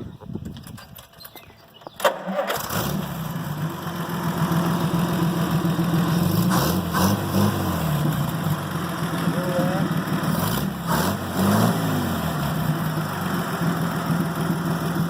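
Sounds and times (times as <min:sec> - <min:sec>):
engine running: 0:00.1 - 0:15.0
engine cranking and starting: 0:00.5 - 0:15.0.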